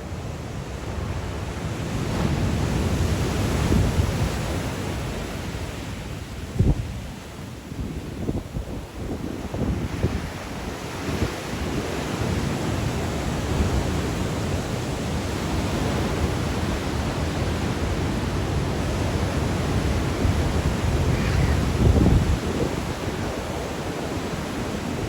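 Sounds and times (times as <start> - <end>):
sea waves breaking on shore: 0.0 - 25.0
wind rumbling on microphone: 1.8 - 25.0.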